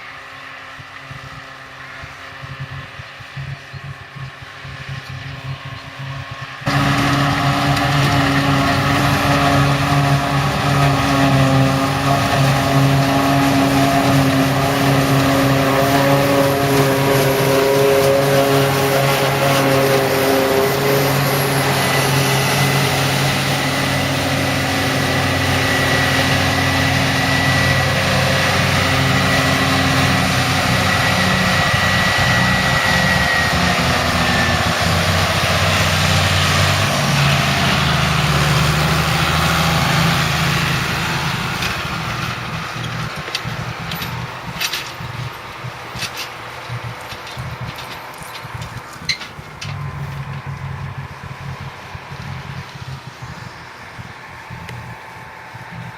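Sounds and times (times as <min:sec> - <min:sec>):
heavy diesel machinery running: 0:00.0 - 0:55.9
high whine: 0:00.0 - 0:55.9.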